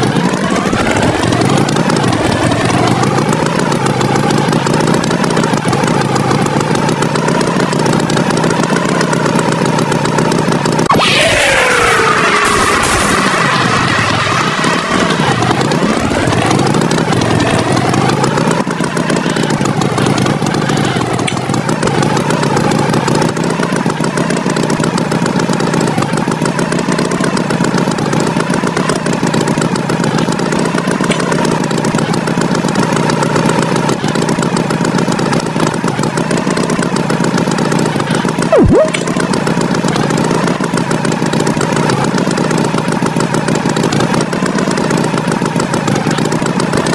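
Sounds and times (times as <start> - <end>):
motor engine running: 0.0 - 46.9.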